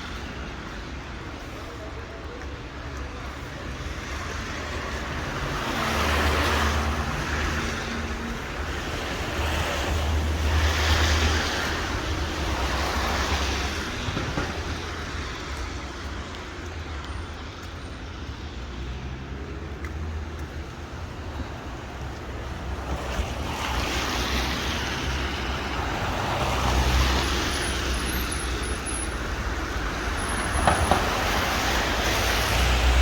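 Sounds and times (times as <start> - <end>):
vehicles passing tyre noise: 0.0 - 33.0.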